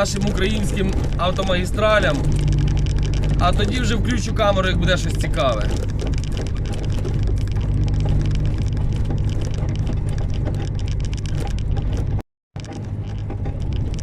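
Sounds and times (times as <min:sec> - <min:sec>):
cab rattles and clicks: 0:00.0 - 0:14.0
road noise: 0:00.0 - 0:14.0
truck engine drone: 0:00.0 - 0:14.0.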